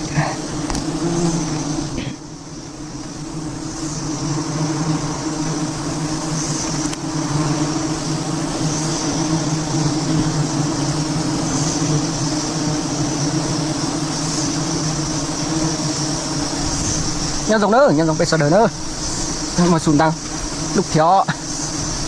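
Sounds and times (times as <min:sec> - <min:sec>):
high insect buzz: 0:00.0 - 0:22.0
honeybees humming: 0:00.0 - 0:22.0.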